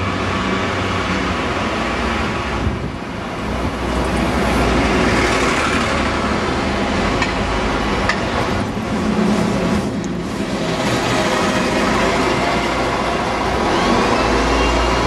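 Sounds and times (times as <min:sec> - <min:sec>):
diesel buses passing: 0:00.0 - 0:15.0
traffic noise: 0:00.0 - 0:15.0.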